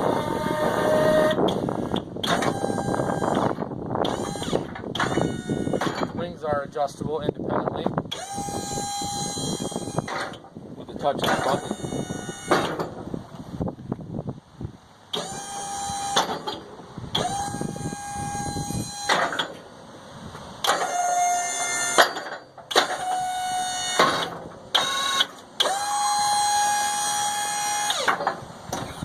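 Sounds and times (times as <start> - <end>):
hydraulic pump whining: 0.0 - 6.5, 7.9 - 13.6, 15.0 - 29.0.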